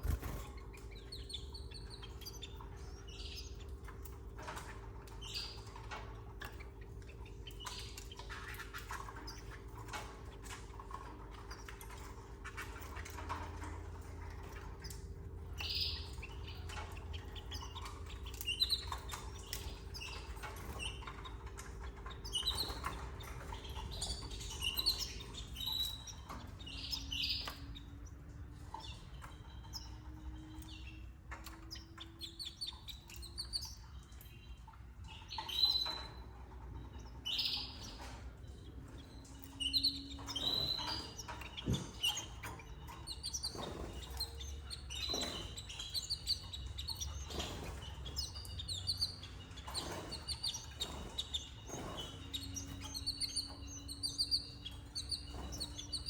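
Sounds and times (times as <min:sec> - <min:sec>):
canaries chirping: 0:00.0 - 0:56.0.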